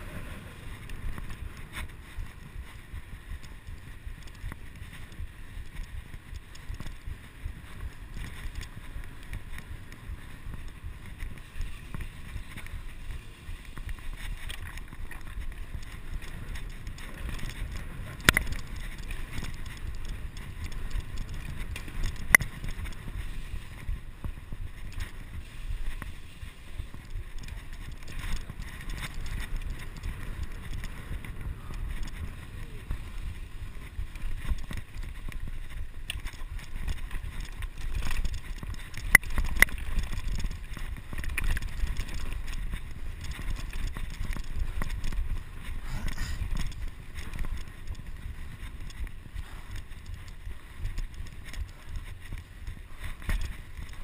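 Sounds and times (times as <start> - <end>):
tyres rolling on brick paving: 0.0 - 54.0
wind on microphone: 0.0 - 54.0.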